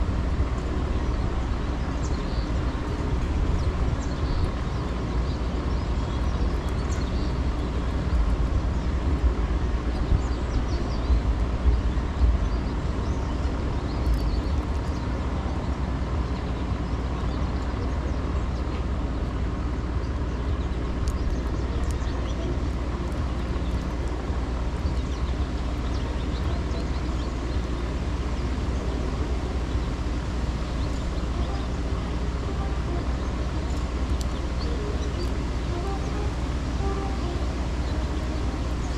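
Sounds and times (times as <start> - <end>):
city traffic hum: 0.0 - 38.9
wind buffeting microphone: 0.0 - 38.9.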